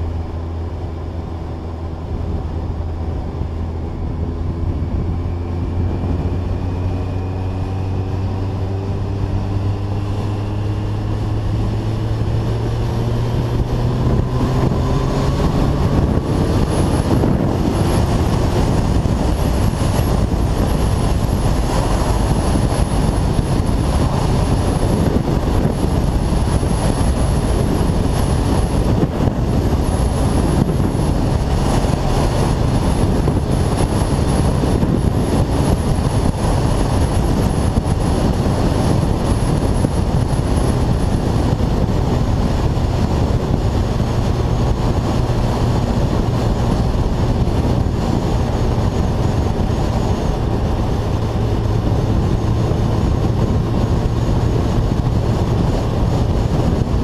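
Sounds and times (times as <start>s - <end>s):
motorcycle engine drone: 0.0s - 57.0s
wind rush on microphone: 0.0s - 57.0s.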